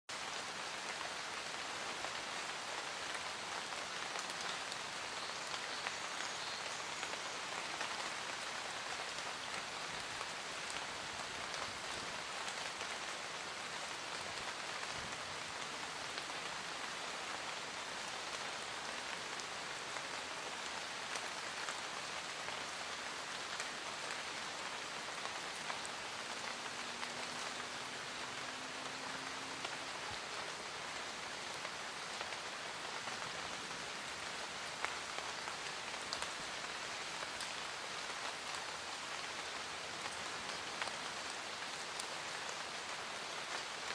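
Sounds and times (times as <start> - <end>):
steady rain falling: 0.1 - 43.9.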